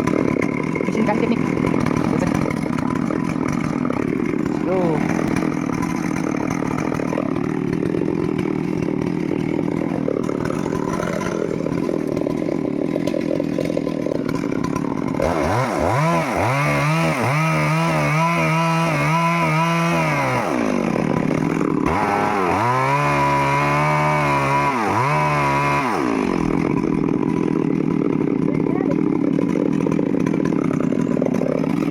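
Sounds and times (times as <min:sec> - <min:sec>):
chainsaw revving: 0:00.0 - 0:31.9.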